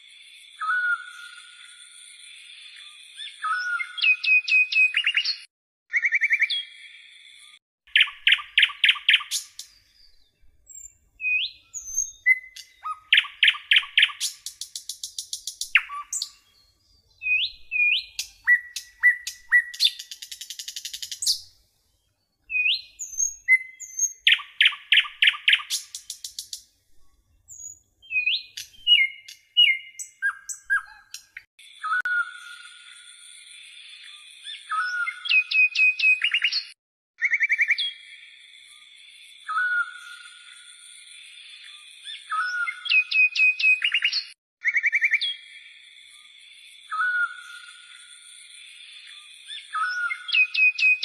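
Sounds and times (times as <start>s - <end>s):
bird singing chirping trills: 0.0s - 51.0s.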